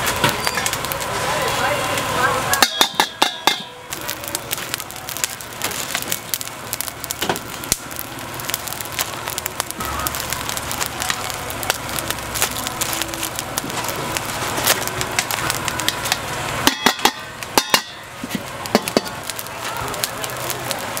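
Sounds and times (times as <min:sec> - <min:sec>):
food crackling in cooking: 0:00.0 - 0:21.0
low rumble: 0:03.8 - 0:21.0.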